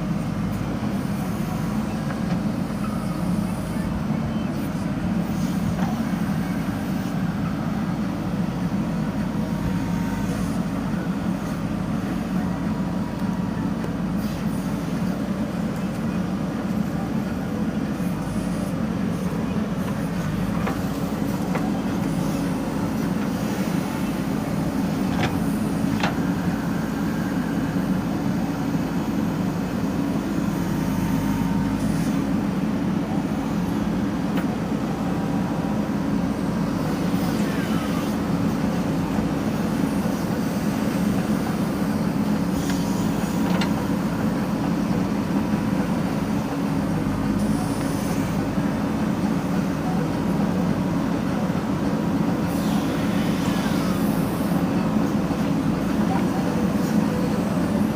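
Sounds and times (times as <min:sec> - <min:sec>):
backhoe diesel engine running: 0:00.0 - 0:57.9.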